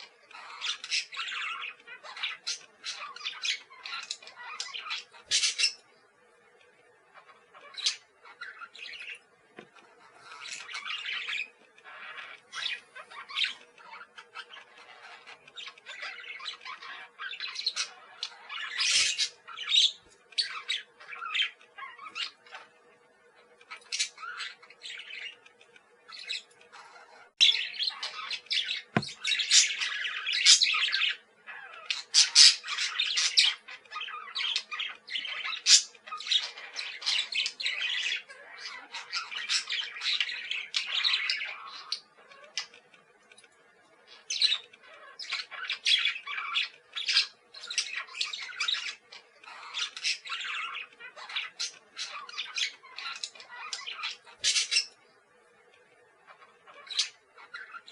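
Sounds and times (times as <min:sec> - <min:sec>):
parakeets chattering: 0:00.0 - 0:57.9.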